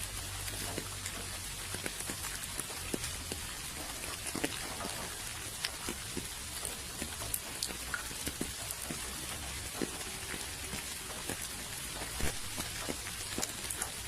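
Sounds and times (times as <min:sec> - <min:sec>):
raindrops ticking on a surface: 0:00.0 - 0:14.0
steady rain hiss: 0:00.0 - 0:14.0.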